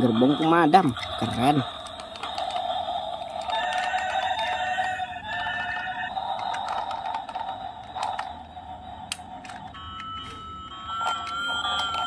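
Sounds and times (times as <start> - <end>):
toy train motor whirring: 0.0 - 12.0.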